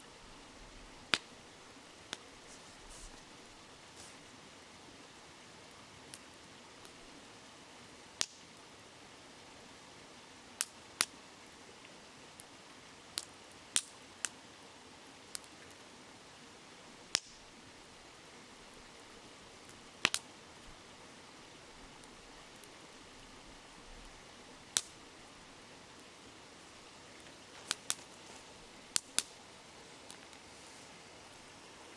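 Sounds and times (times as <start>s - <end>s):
babbling river: 0.0s - 31.9s
wood fire crackling: 0.1s - 31.9s.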